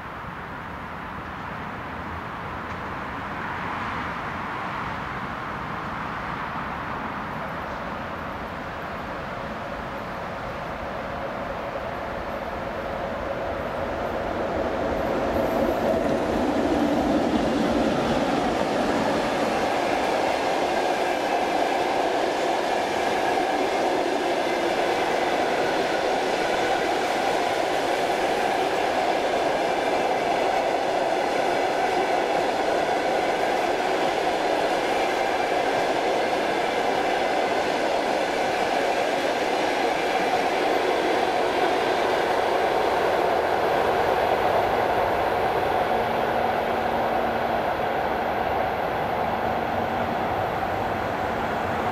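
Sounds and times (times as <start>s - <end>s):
train running noise: 0.0s - 51.9s.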